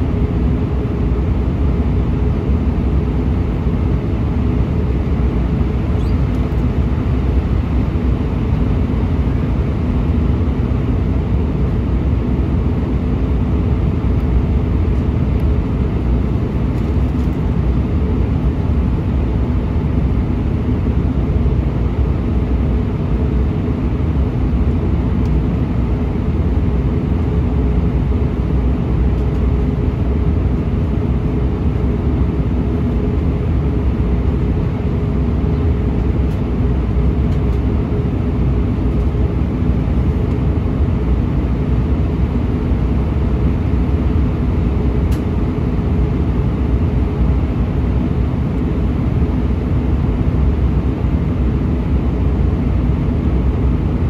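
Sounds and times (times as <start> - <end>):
aircraft cabin drone: 0.0 - 54.0.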